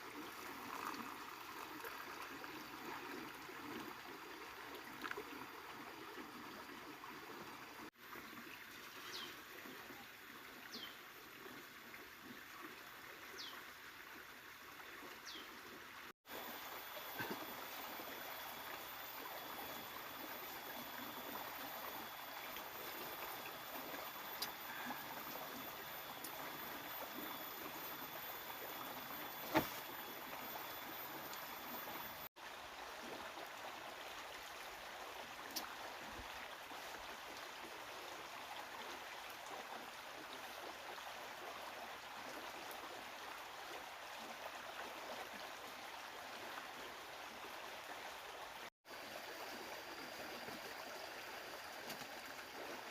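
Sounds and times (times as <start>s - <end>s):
flowing water rushing: 0.0s - 52.9s.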